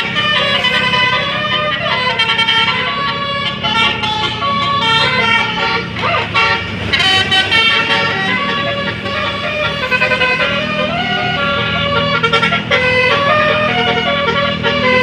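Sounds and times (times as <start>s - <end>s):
bus engine running: 0.0s - 15.0s
musical bus horn melody: 0.0s - 15.0s.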